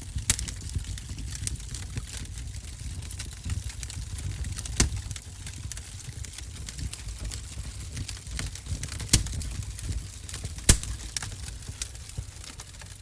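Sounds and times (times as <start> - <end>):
loud fire pops: 0.0 - 13.0
low rumble of flame: 0.0 - 13.0
wood fire crackling: 0.0 - 13.0.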